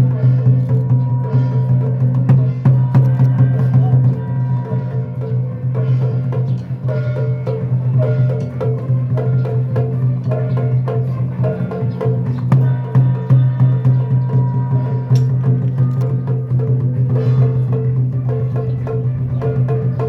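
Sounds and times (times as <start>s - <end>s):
drum and wood-block strokes: 0.0s - 20.0s.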